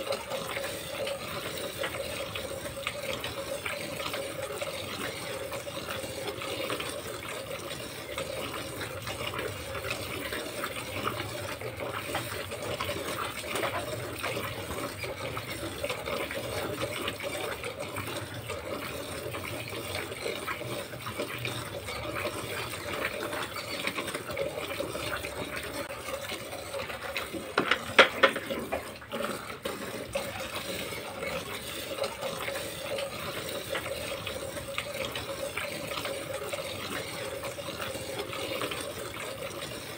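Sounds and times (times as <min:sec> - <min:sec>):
milk jets splashing into bucket: 0:00.0 - 0:39.9.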